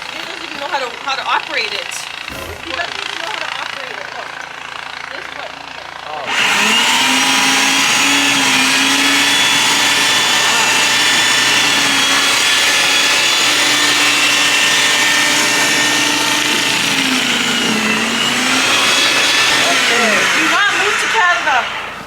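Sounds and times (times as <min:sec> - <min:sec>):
snowblower running: 0:00.0 - 0:22.0.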